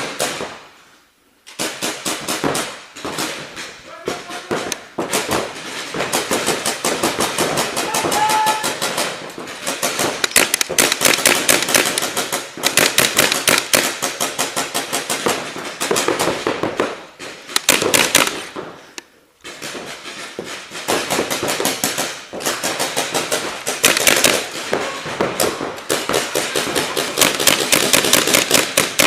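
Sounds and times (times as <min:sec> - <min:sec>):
paintball markers firing rapidly: 0:01.5 - 0:29.0.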